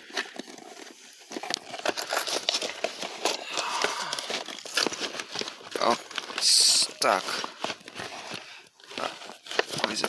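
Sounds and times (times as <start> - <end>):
crinkling and rustling: 0.0 - 10.0.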